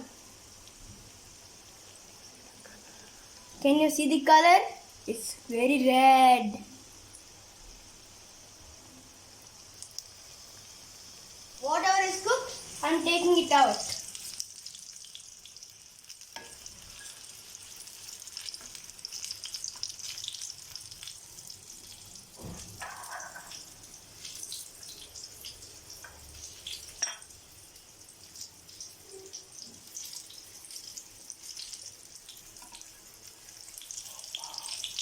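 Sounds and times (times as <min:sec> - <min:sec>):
fish sizzling in hot oil: 0:00.0 - 0:35.0.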